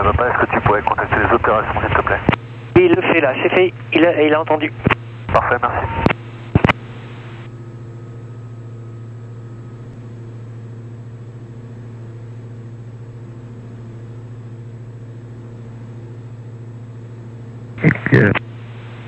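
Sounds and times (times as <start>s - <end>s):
aircraft engines droning in cockpit: 0.0s - 19.0s.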